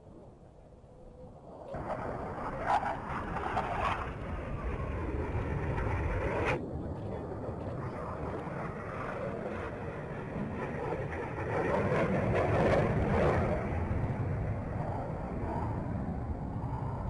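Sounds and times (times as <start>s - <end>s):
jet roar: 0.0s - 17.0s.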